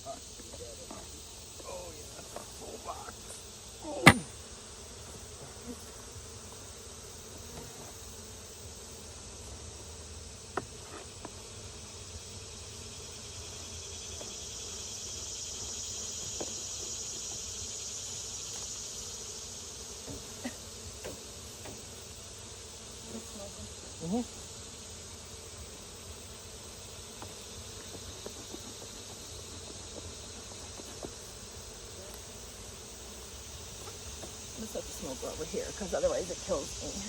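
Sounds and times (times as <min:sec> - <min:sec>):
high insect drone: 0:00.0 - 0:37.0
honeybees buzzing: 0:00.0 - 0:37.0.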